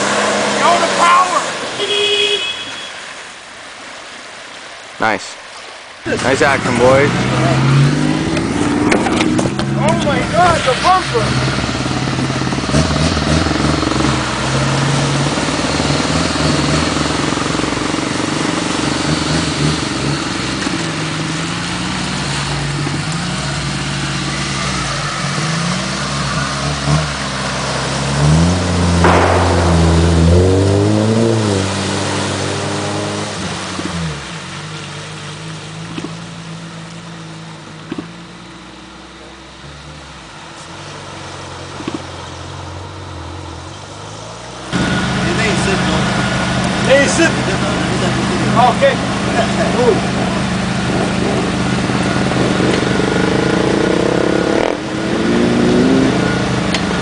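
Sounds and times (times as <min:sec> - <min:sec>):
off-road engines revving: 0:00.0 - 0:03.2, 0:06.0 - 0:57.0.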